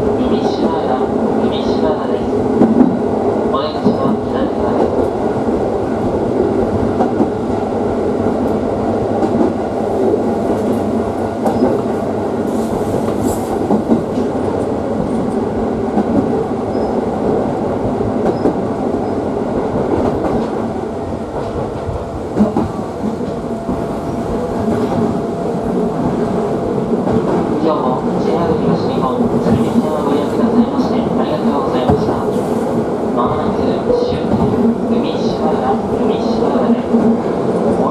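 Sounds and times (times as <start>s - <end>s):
train wheels rolling on rails: 3.8s - 37.9s.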